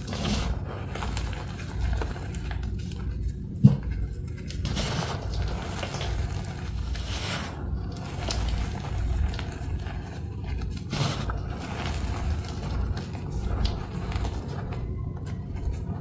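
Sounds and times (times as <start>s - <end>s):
hands crumbling chalk: 0.0s - 16.0s.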